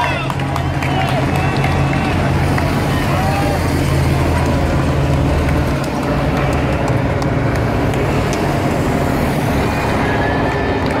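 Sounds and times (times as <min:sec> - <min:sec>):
cars and motorcycles driving past: 0:00.0 - 0:11.0.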